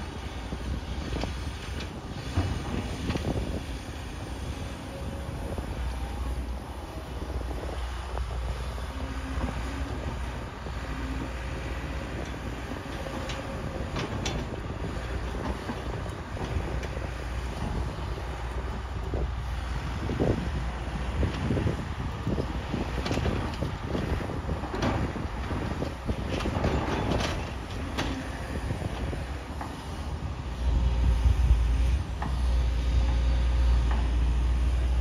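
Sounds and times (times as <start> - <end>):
excavator diesel engine rumbling: 0.0 - 35.0.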